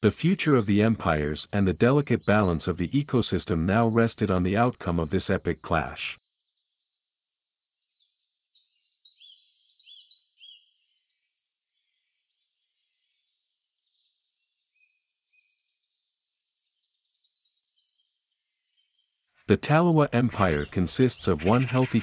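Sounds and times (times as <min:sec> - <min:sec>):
small birds chirping and trilling: 0:00.5 - 0:22.0.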